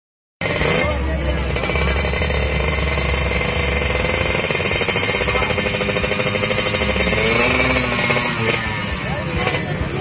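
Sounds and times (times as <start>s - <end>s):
two-stroke engine at high revs: 0.4s - 10.0s.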